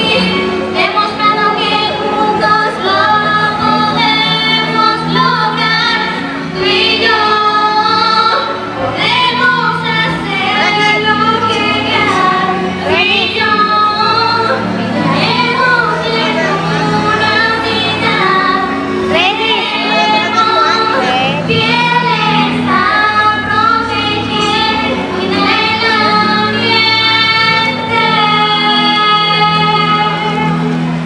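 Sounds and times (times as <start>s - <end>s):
steady musical accompaniment: 0.0s - 31.0s
young female voices singing: 0.0s - 31.0s.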